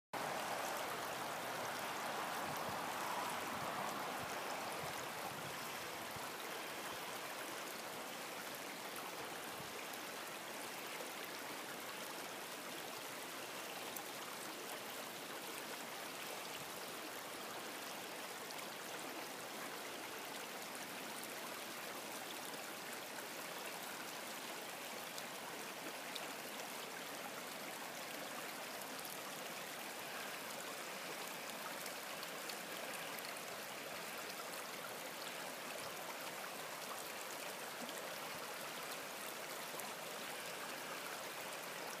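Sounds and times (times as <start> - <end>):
stream of running water: 0.1 - 42.0.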